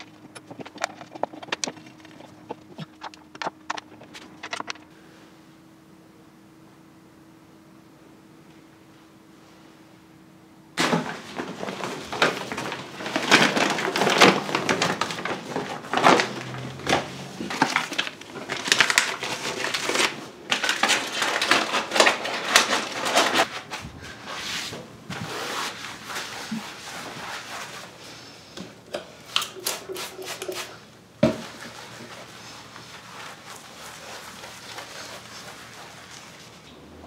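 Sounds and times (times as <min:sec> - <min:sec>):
plastic bags and containers rustling: 0:00.0 - 0:05.0, 0:10.8 - 0:37.0.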